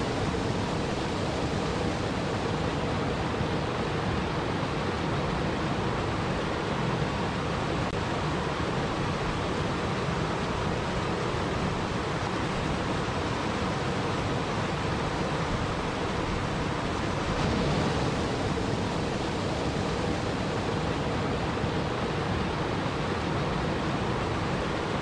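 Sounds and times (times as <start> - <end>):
waterfall splashing over rocks: 0.0 - 25.0.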